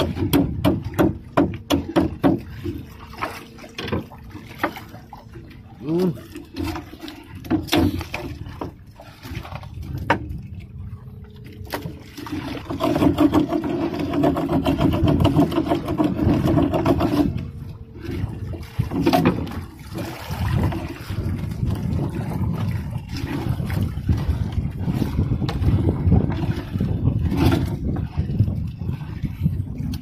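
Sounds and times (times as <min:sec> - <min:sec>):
net knocking and scraping on hull: 0:00.0 - 0:05.5, 0:06.3 - 0:10.5, 0:11.4 - 0:30.0
pulsing droning hum: 0:00.0 - 0:30.0.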